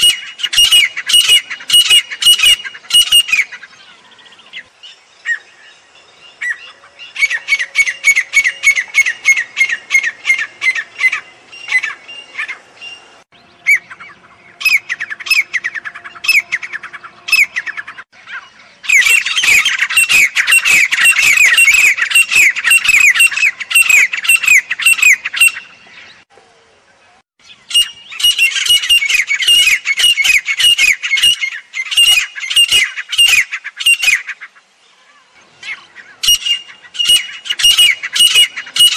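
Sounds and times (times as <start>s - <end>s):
bird calling rapid falling notes: 6.4s - 26.3s, 27.4s - 38.9s.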